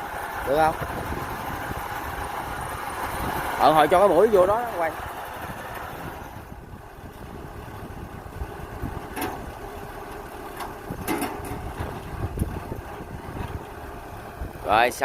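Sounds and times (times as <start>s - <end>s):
combine harvester diesel engine running: 0.0s - 15.0s.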